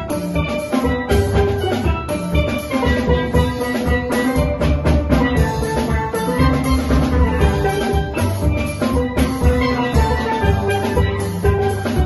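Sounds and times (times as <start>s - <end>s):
drum kit and cymbals: 0.0s - 12.0s
steel pans playing melody: 0.0s - 12.0s.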